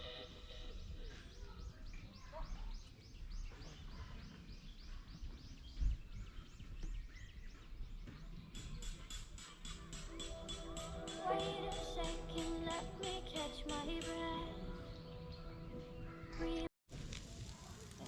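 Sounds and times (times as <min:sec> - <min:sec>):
small birds chirping: 0:00.2 - 0:16.7.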